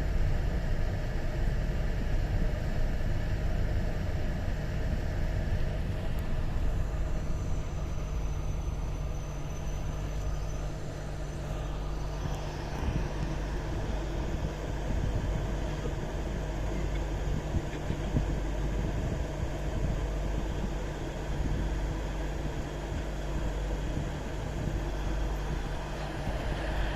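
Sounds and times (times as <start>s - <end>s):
faint high whine: 0.0s - 26.9s
train rumbling: 0.0s - 26.9s.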